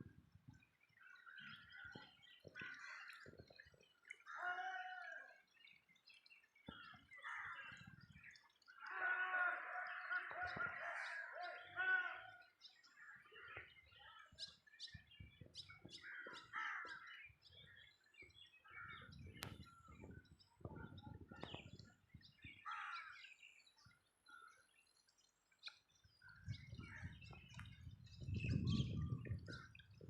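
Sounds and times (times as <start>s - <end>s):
wild birds chirping: 0.0s - 30.0s
lower pitched bird calls: 0.5s - 30.0s.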